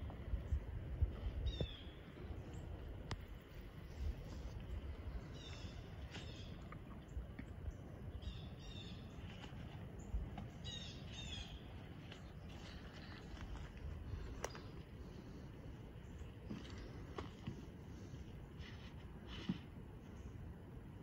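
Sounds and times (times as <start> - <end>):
bird calling faintly: 1.2 - 20.4.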